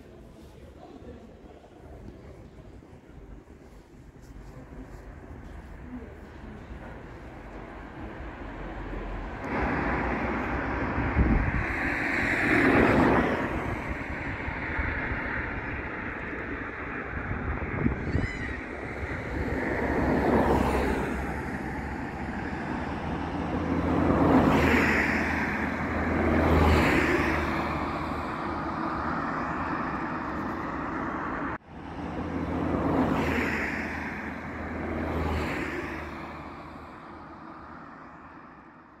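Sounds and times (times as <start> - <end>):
cars passing: 2.3 - 39.0.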